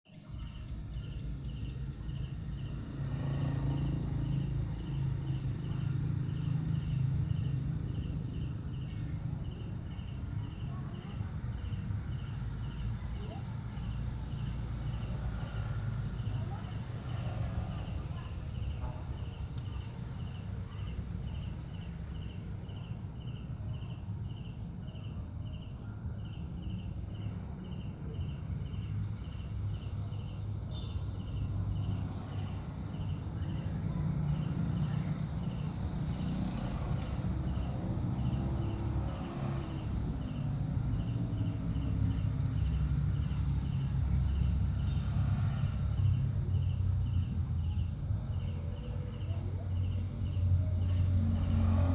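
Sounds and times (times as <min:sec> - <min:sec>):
insects chirping: 0:00.1 - 0:51.9.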